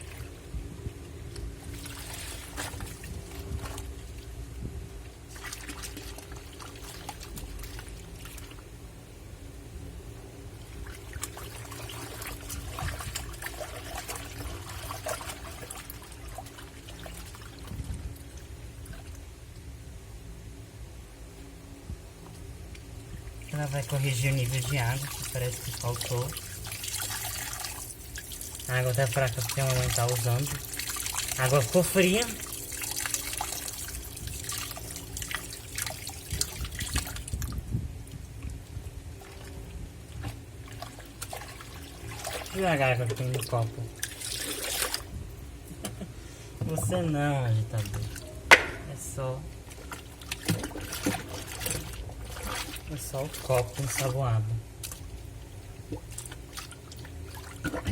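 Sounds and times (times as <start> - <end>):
water splashing in washing machine: 0.0 - 0.6, 1.4 - 8.9, 10.5 - 19.4, 22.2 - 45.2, 46.6 - 57.9
steady low hum: 0.0 - 57.9.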